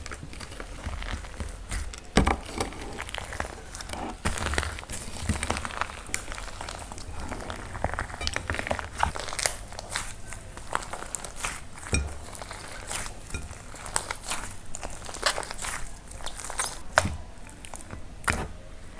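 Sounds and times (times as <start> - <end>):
dry clay crunching and crackling: 0.0 - 18.9.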